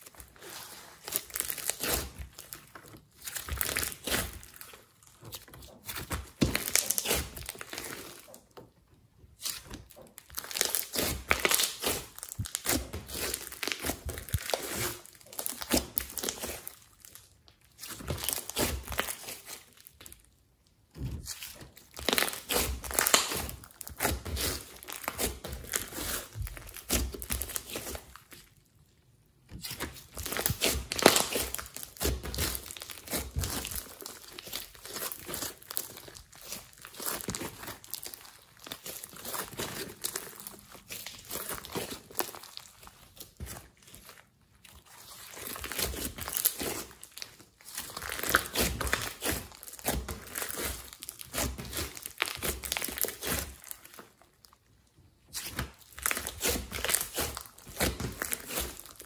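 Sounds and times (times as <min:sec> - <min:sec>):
slime crackling as kneaded: 0:00.0 - 0:59.0.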